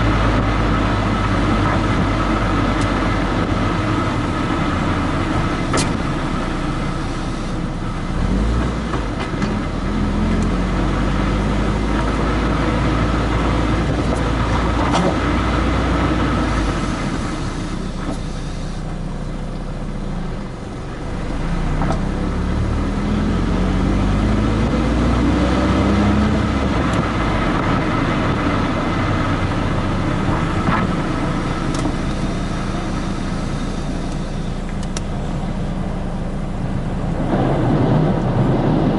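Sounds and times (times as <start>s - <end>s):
car engine and exhaust revving: 0.0s - 38.9s
tyre and wind road noise: 0.0s - 38.9s.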